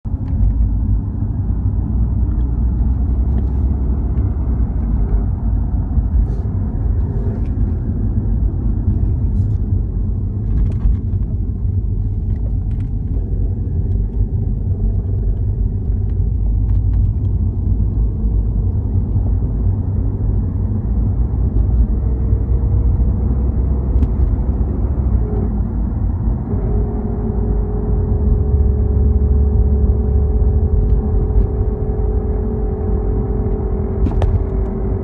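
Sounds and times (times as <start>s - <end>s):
car engine low rumble: 0.0s - 35.0s.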